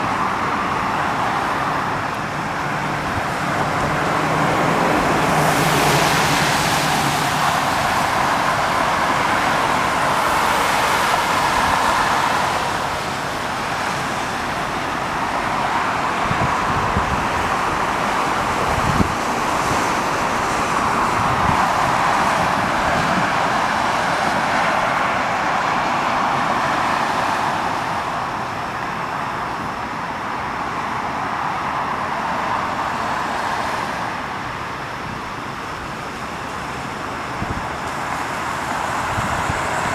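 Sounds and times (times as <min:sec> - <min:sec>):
rushing road noise: 0:00.0 - 0:39.9.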